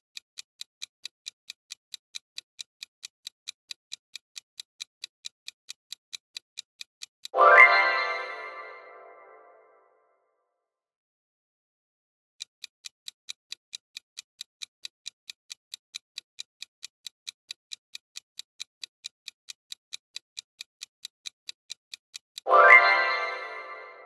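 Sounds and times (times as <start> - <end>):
clock ticking: 0.0 - 9.3, 12.4 - 24.0.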